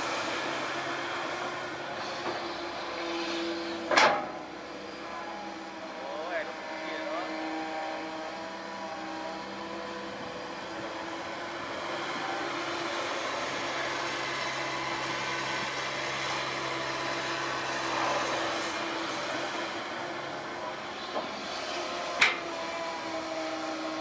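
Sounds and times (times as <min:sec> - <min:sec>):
excavator engine and hydraulics: 0:00.0 - 0:24.0.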